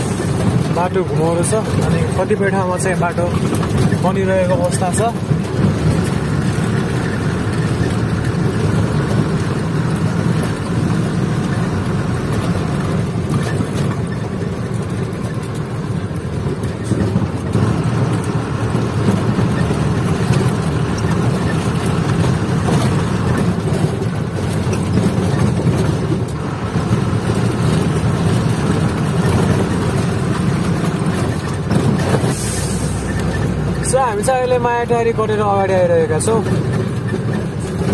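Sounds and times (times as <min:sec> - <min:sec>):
road noise: 0:00.0 - 0:37.9
truck engine droning: 0:00.0 - 0:37.9.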